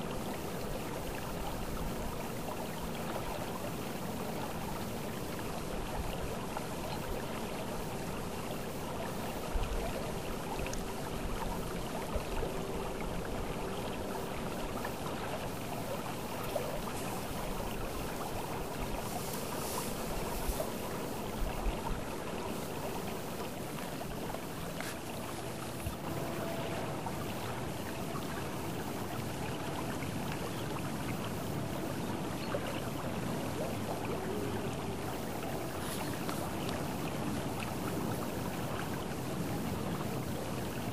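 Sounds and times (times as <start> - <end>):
river water rippling over pebbles: 0.0 - 40.9.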